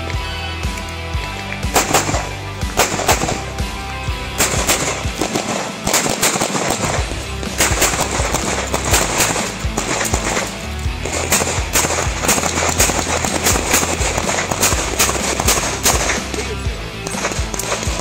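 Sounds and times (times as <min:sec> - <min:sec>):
background music: 0:00.0 - 0:18.0
pistol shots: 0:01.6 - 0:03.7, 0:04.4 - 0:18.0.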